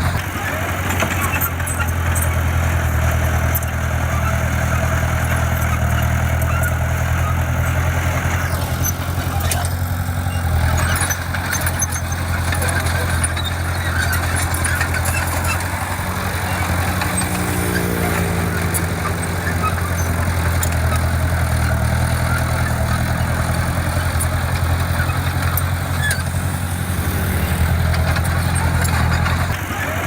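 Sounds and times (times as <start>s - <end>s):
diesel engine humming: 0.0s - 30.0s.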